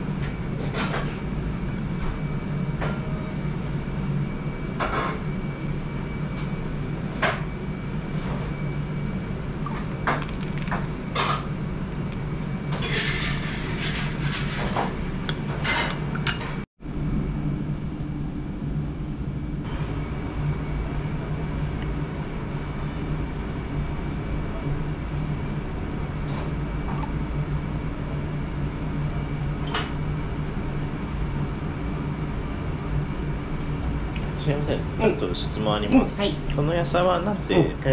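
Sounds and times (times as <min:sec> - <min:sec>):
low room hum: 0:00.0 - 0:37.9.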